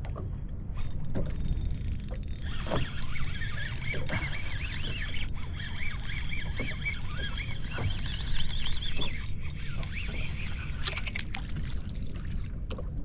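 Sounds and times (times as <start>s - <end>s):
water around a boat: 0.0s - 13.0s
wind: 0.0s - 13.0s.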